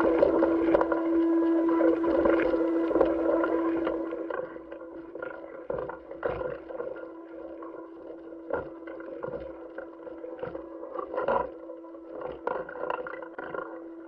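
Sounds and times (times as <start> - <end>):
steady hum with hiss: 0.0 - 14.0.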